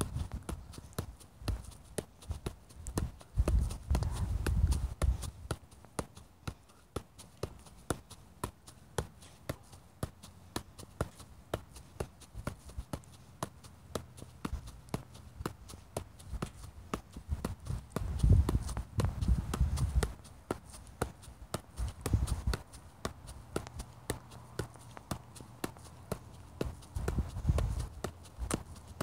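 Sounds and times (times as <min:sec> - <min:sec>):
soft ball taps: 0:00.0 - 0:29.0.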